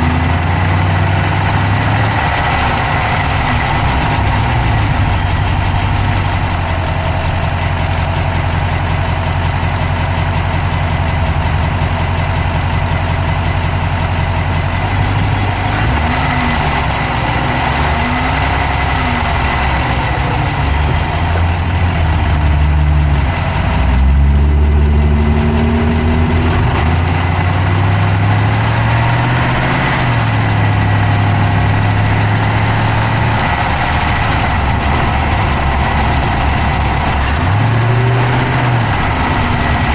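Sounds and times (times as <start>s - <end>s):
car engine idling: 0.0s - 39.9s
fast engine clicking: 0.0s - 39.9s.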